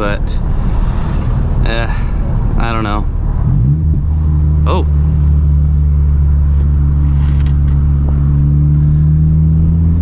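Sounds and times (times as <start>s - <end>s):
car exhaust drone: 0.0s - 10.0s.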